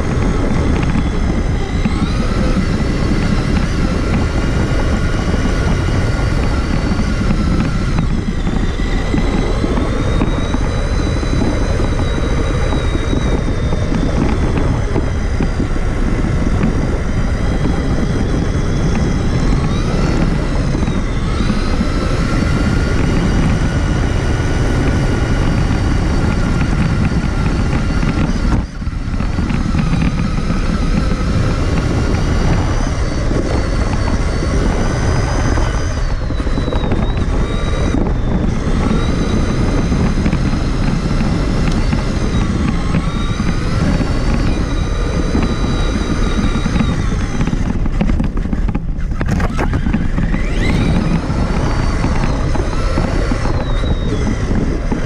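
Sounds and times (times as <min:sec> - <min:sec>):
electric toy truck motor whining: 0:00.0 - 0:55.0
tyres rumbling on rough ground: 0:00.0 - 0:55.0.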